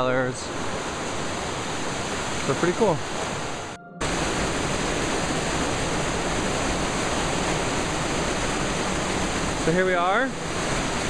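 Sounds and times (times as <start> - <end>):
river rushing over rocks: 0.1 - 11.0.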